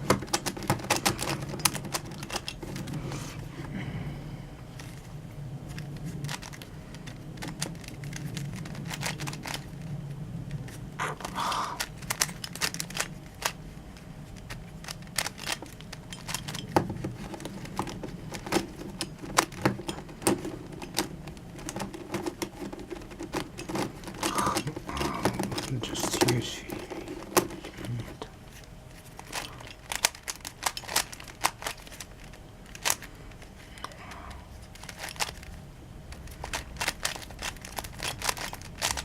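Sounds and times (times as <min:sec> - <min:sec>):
plastic puzzle clicking: 0:00.0 - 0:03.0, 0:05.7 - 0:09.8, 0:10.5 - 0:39.0
steady low hum: 0:00.0 - 0:39.0.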